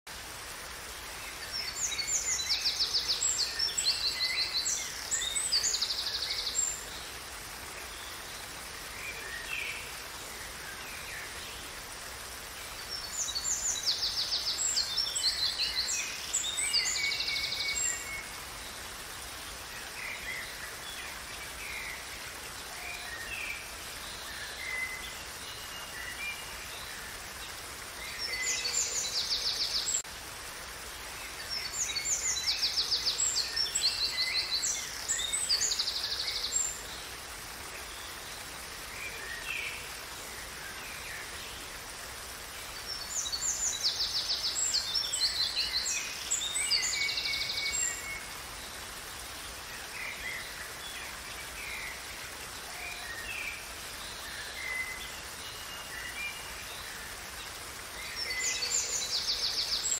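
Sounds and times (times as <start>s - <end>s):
waterfall rushing: 0.1s - 59.9s.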